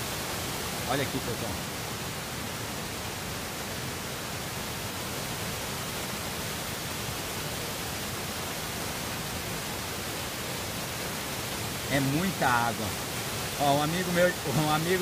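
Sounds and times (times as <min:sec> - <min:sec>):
floodwater rushing: 0:00.0 - 0:15.0
rain falling: 0:00.0 - 0:15.0.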